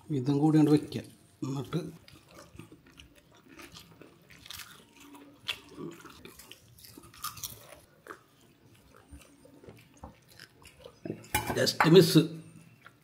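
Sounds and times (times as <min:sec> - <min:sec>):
person chewing rice: 0:00.6 - 0:11.3, 0:12.5 - 0:13.0.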